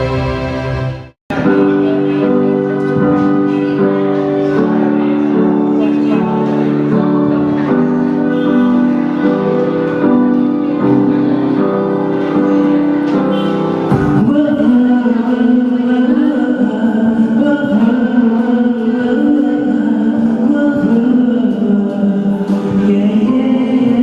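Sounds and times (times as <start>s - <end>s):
sustained piano chords: 0.0s - 24.0s.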